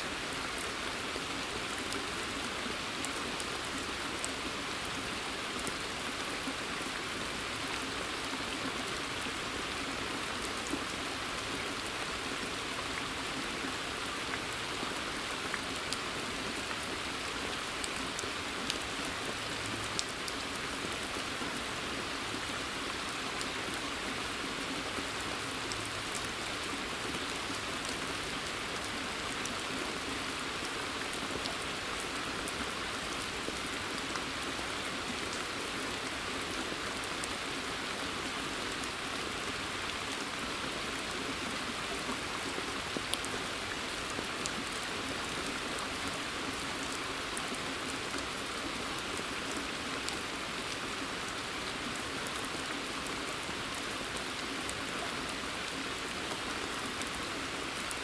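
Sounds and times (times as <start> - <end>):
rain pattering in a forest: 0.0 - 58.0.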